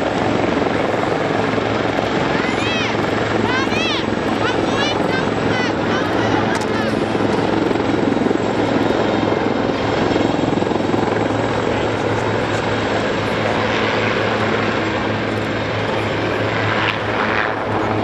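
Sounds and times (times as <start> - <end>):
helicopter rotor and turbine: 0.0 - 18.0.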